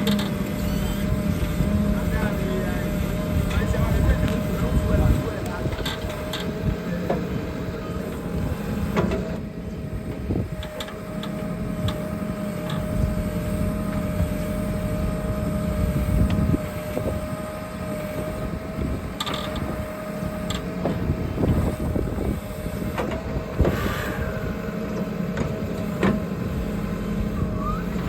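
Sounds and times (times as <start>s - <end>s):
diesel engine running: 0.0s - 28.0s
steady whine: 0.0s - 28.0s.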